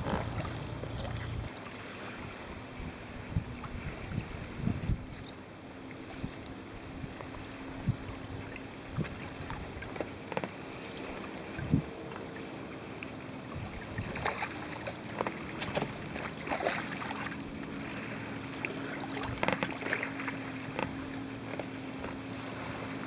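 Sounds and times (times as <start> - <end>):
faint steady hum: 0.0 - 23.0
fishing reel clicks and knocks: 0.0 - 23.0
water lapping and splashing: 0.0 - 23.0.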